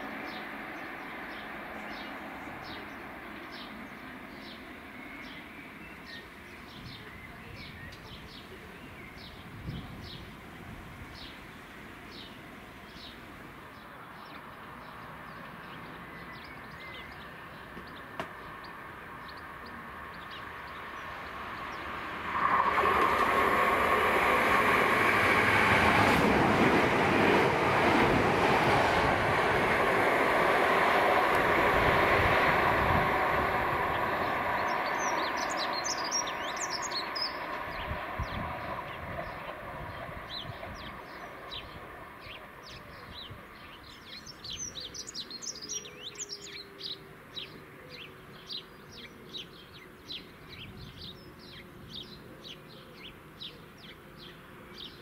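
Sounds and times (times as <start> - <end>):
birds chirping: 0.0 - 55.0
electric train rumbling past: 0.0 - 55.0.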